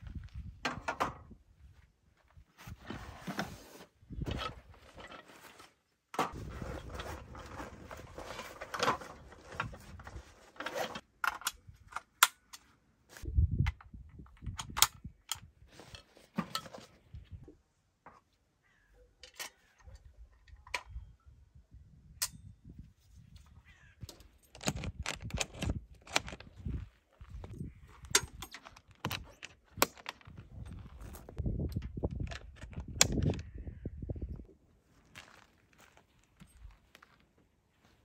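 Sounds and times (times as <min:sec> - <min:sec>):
rustling of camping gear: 0:00.0 - 0:13.4, 0:14.1 - 0:20.7, 0:22.6 - 0:33.6, 0:34.4 - 0:38.0.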